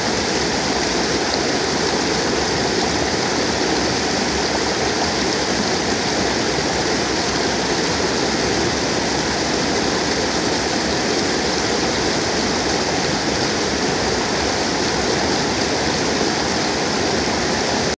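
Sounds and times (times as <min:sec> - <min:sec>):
floodwater rushing over drop: 0:00.0 - 0:18.0.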